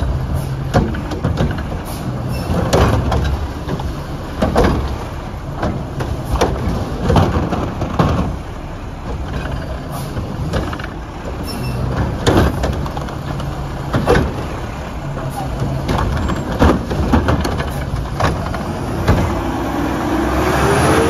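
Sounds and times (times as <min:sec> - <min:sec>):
knocks and clanks of truck arm: 0:00.0 - 0:20.0
garbage truck engine running: 0:00.0 - 0:21.0.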